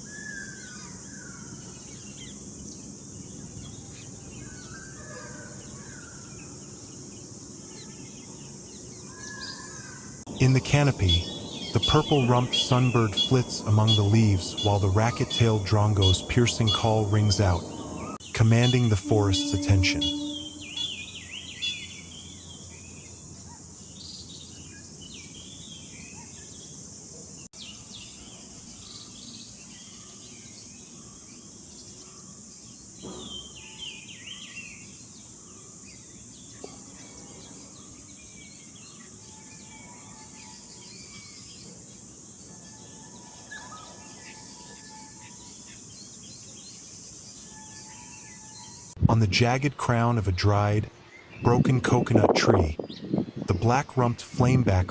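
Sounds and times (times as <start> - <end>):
birds chirping and calling: 0.0 - 27.0, 27.6 - 54.9
high insect drone: 0.0 - 49.0.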